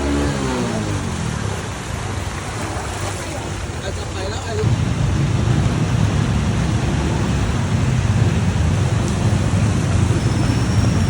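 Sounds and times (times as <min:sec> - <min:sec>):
deep continuous rumble: 0:00.0 - 0:11.0
heavy rain: 0:00.0 - 0:11.0.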